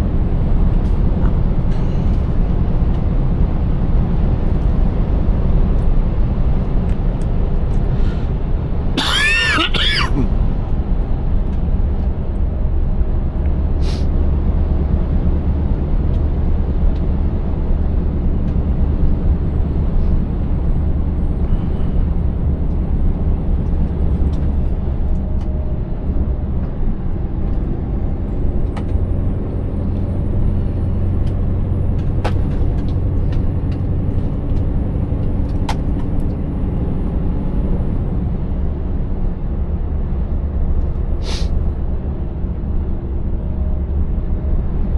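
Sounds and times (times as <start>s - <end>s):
road noise: 0.0s - 44.9s.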